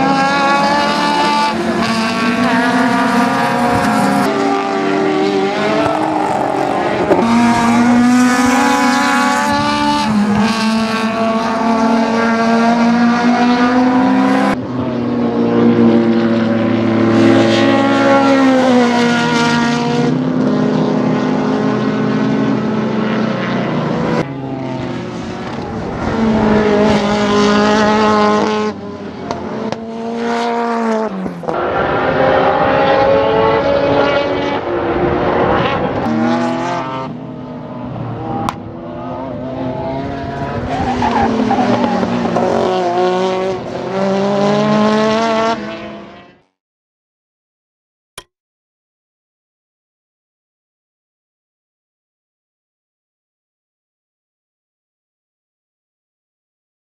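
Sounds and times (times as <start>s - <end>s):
race car engine revving: 0.0s - 46.4s.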